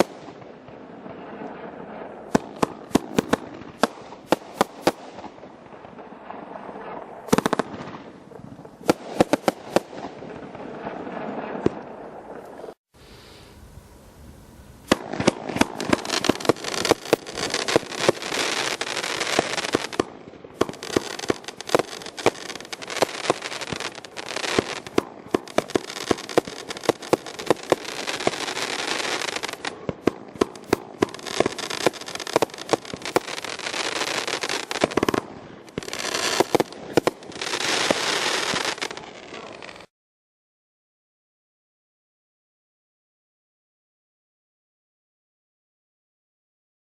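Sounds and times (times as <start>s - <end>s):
fireworks firing volleys: 0.0s - 12.8s, 14.8s - 39.9s
fireworks crackling: 0.0s - 39.9s.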